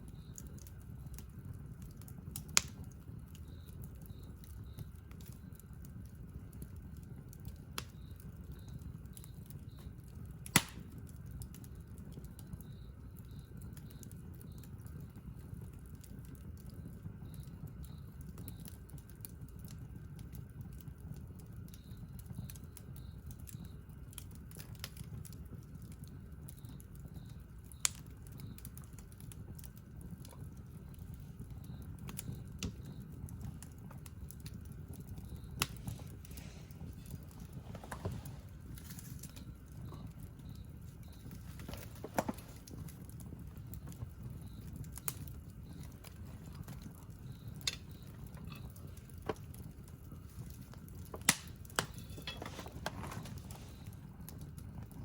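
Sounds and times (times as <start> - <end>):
burning wood popping: 0.0 - 55.0
campfire crackling: 0.0 - 55.0
campfire low rumble: 0.0 - 55.0.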